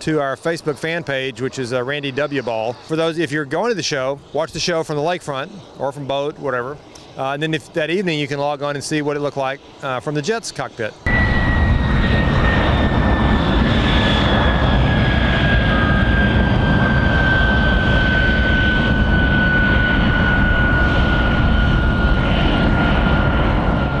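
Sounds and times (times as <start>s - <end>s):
jet engine running: 0.0s - 24.0s.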